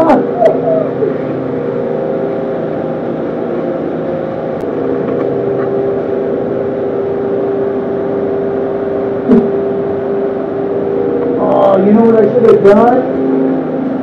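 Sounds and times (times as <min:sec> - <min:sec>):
fan unit humming: 0:00.0 - 0:14.0.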